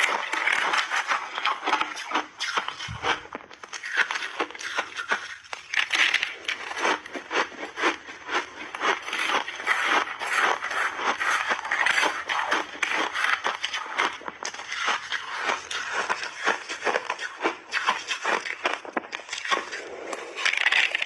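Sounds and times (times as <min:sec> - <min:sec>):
crunching and chewing ice: 0:00.0 - 0:21.0.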